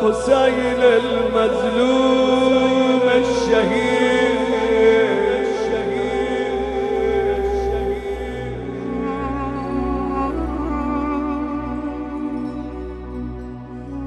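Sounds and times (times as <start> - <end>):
solo voice chanting: 0.0 - 12.5.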